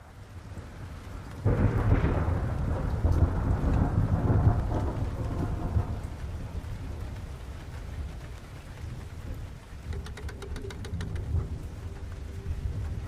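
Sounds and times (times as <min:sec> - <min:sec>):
steady rain: 0:00.0 - 0:13.0
thunder rumbling: 0:00.0 - 0:13.0.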